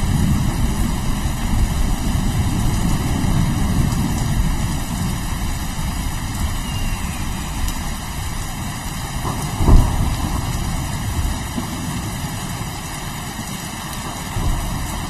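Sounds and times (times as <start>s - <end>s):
rolling thunder rumble: 0.0s - 13.3s, 14.0s - 15.0s
steady rain: 0.0s - 15.0s.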